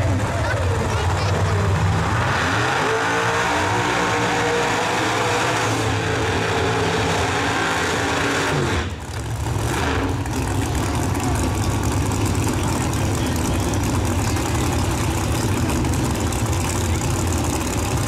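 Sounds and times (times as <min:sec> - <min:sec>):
race car engines revving: 0:00.0 - 0:18.0.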